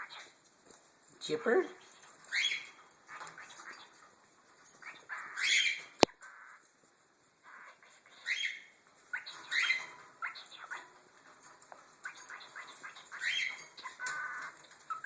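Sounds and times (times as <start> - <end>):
cockatiels chirping: 0.0 - 0.4, 1.3 - 6.7, 7.4 - 15.0.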